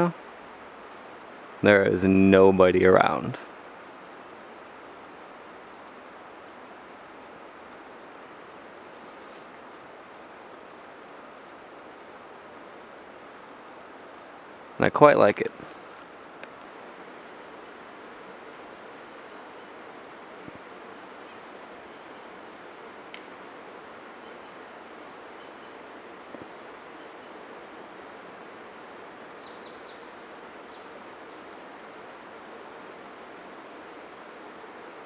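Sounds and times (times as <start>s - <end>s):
steady forest hiss: 0.0s - 35.0s.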